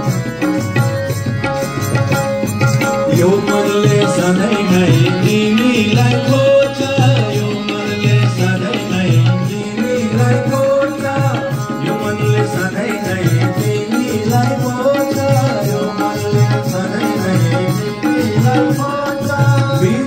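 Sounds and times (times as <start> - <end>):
drum steady beat: 0.0 - 20.0.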